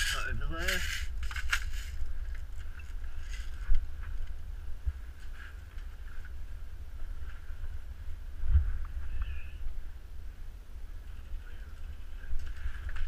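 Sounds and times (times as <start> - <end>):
muffled wind rumble: 0.0 - 13.0.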